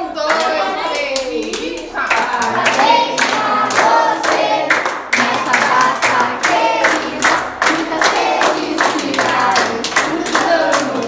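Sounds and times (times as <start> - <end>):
children singing together: 0.0 - 11.0
clapping in a steady beat: 0.2 - 11.0.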